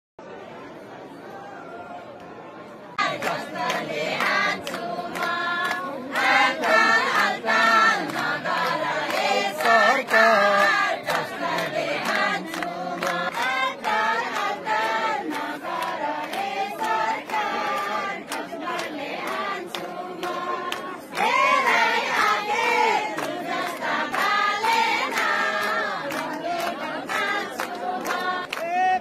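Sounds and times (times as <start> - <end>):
women singing together: 3.0 - 28.9
rhythmic handclapping: 3.0 - 29.0.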